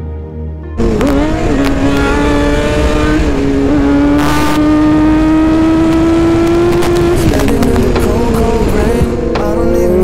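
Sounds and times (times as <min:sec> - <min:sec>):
motorcycle engine pulling hard: 0:00.8 - 0:09.3.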